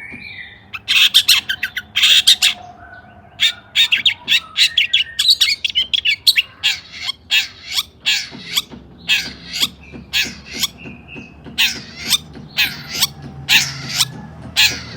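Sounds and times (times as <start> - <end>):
bird harsh scratchy calls: 0.7 - 2.8, 3.4 - 14.9.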